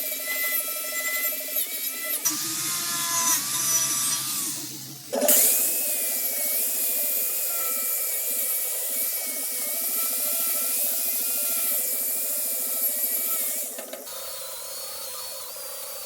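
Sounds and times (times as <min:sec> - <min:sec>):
power tool whining on metal: 0:00.0 - 0:16.0.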